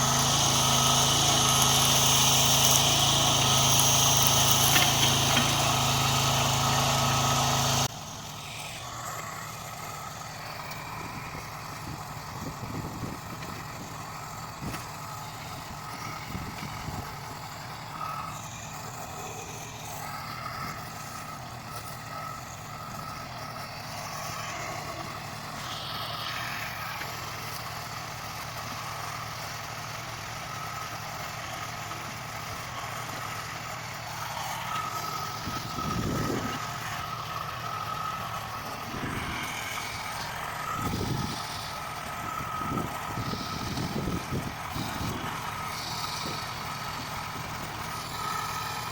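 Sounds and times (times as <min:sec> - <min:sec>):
faint engine whine: 0:00.0 - 0:48.9
tractor engine running: 0:00.0 - 0:48.9.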